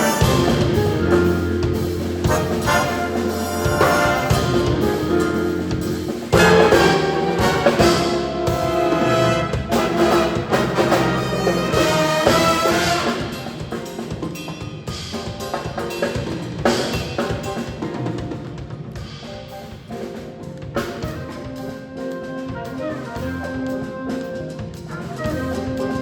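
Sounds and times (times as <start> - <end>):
drum kit: 0.0 - 26.0
jazz brass ensemble: 0.0 - 26.0.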